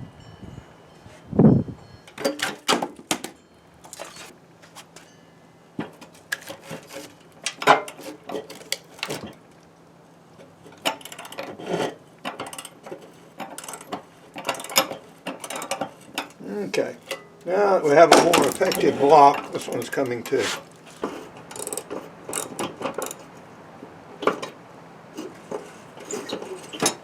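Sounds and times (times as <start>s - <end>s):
tools clanking on steel mower deck: 2.0s - 5.2s, 5.8s - 9.6s, 10.4s - 23.5s, 24.1s - 27.0s.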